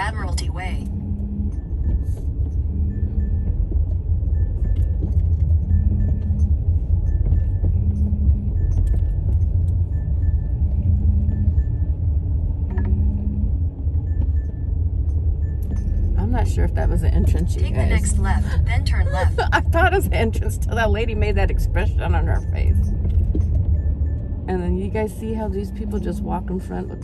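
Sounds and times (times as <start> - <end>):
car cabin rumble: 0.0 - 27.0.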